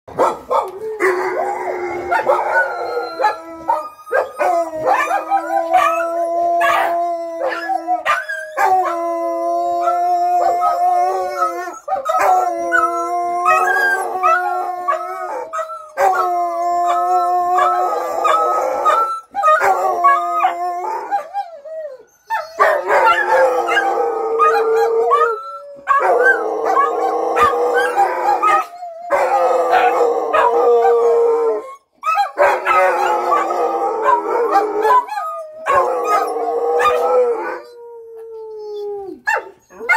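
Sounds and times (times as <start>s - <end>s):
dogs howling: 0.1s - 39.9s.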